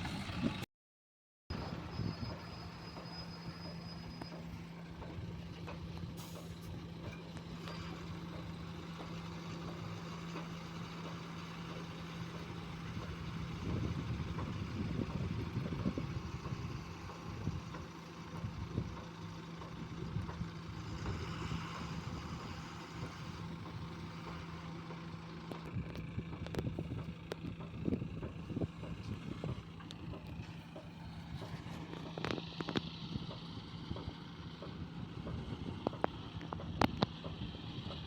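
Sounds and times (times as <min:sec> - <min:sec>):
diesel engine idling: 0:01.5 - 0:38.0.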